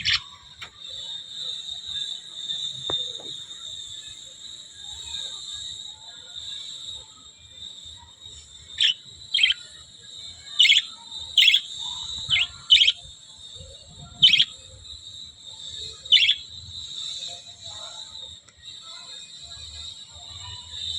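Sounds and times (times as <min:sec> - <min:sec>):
high-pitched background chatter: 0:00.0 - 0:20.9.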